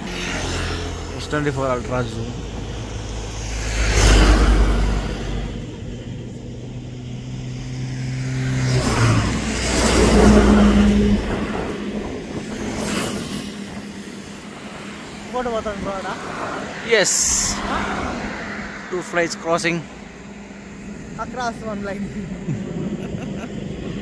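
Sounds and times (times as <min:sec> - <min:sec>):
road vehicles passing: 0:00.0 - 0:24.0
steady engine hum: 0:00.0 - 0:24.0.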